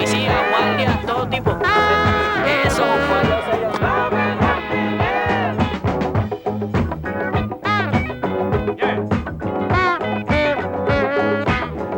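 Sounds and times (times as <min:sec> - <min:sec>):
horns: 0:00.0 - 0:11.9
steady drum beat: 0:00.0 - 0:11.9
walking bass: 0:00.0 - 0:11.9.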